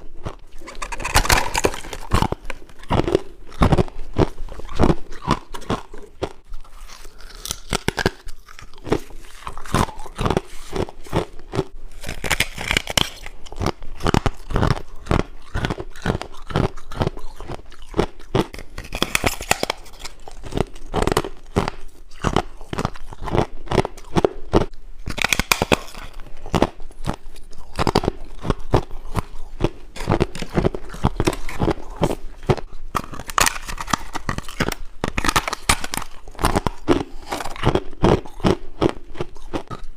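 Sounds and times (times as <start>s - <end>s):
person chewing ice crunching: 0.0s - 39.9s.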